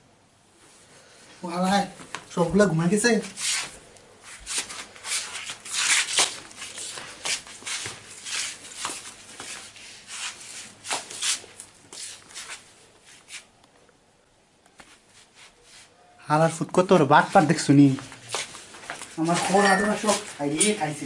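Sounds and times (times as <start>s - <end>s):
rustling and rubbing scuffs: 0.5s - 13.6s, 14.7s - 16.1s, 17.2s - 21.0s.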